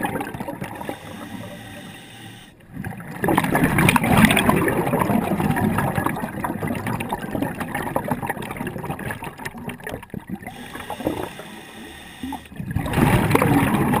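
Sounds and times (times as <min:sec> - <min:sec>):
underwater bubbles gurgling: 0:00.0 - 0:14.0.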